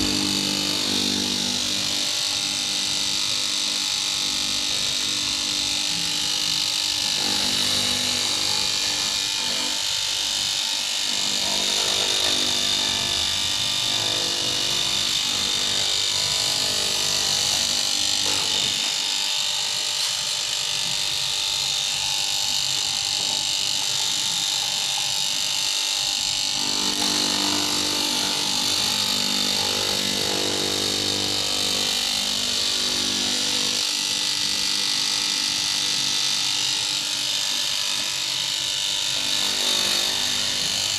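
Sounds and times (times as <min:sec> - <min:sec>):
cloth-cutting machine whirring: 0:00.0 - 0:40.9.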